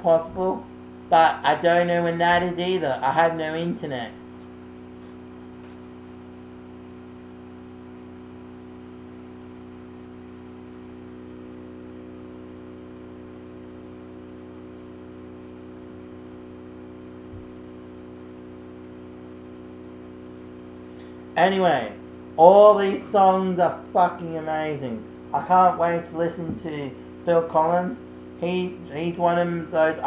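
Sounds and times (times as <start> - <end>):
electrical hum with fixed tones: 0.0 - 30.0.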